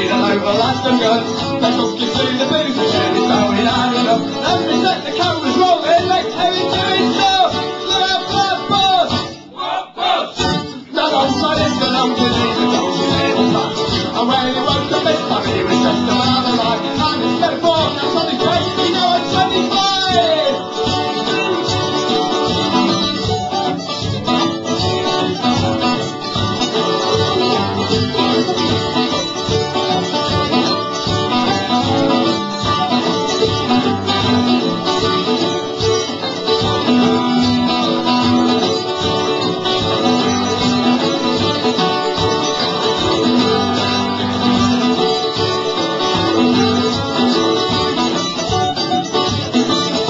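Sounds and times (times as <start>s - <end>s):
acoustic guitars strummed and picked: 0.0s - 50.0s.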